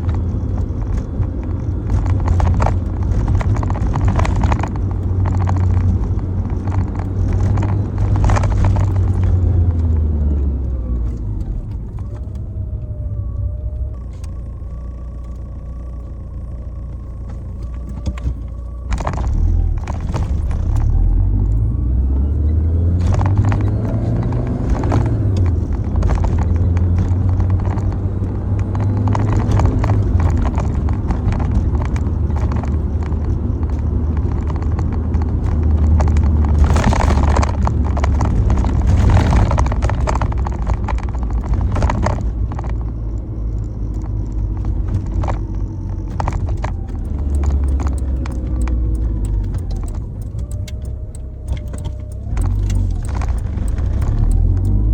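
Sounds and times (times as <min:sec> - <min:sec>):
car engine rumbling: 0:00.0 - 0:54.9.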